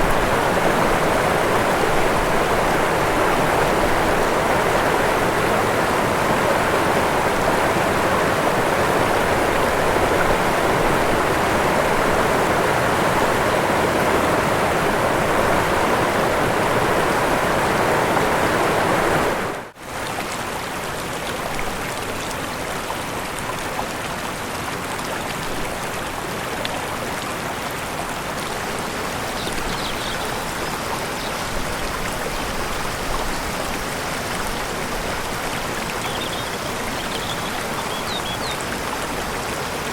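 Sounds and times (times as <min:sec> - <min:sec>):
thinner rush of water: 0:00.0 - 0:39.9
waterfall rushing: 0:00.0 - 0:39.9.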